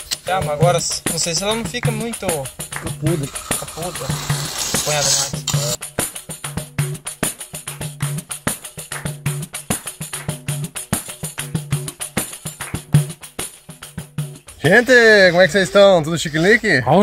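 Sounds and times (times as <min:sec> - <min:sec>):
music with percussion beat and bass: 0:00.0 - 0:17.0.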